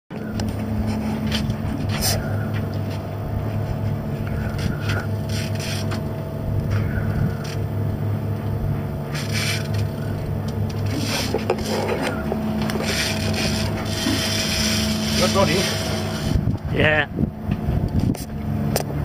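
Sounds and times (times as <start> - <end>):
boat engine humming: 0.1 - 19.0.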